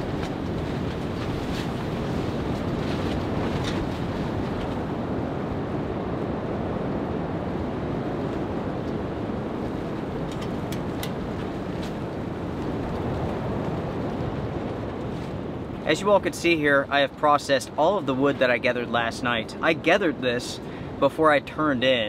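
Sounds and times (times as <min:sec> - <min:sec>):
strong storm wind against tent: 0:00.0 - 0:22.0.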